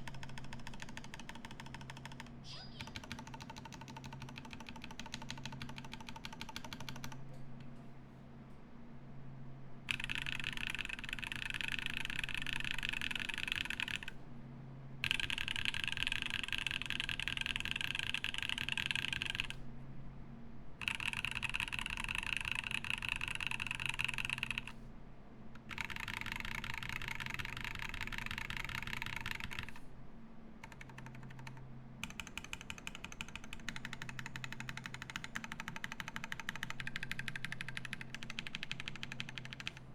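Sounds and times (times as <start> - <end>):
fast mechanical keyboard typing: 0.0 - 7.2, 9.9 - 14.2, 15.0 - 19.6, 20.8 - 24.8, 25.6 - 29.8, 30.6 - 39.9.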